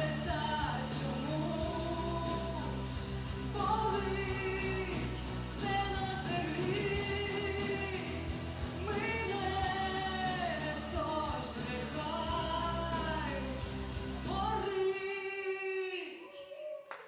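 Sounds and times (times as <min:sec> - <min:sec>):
woman singing pop-rock song: 0:00.0 - 0:16.1.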